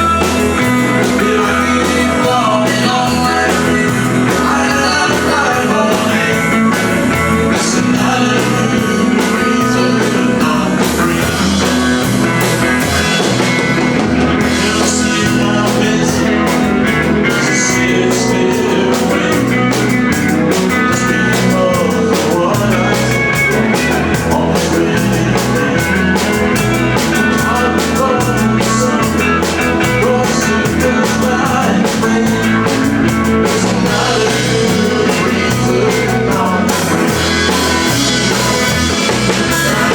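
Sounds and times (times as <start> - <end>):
live country-rock band: 0.0 - 39.9.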